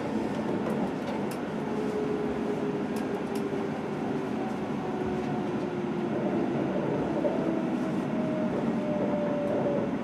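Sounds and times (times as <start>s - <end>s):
train rumble from inside: 0.0s - 10.0s.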